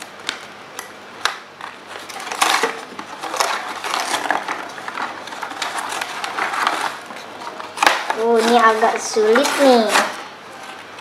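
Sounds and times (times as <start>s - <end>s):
cardboard crackling and rustling: 1.6s - 11.0s.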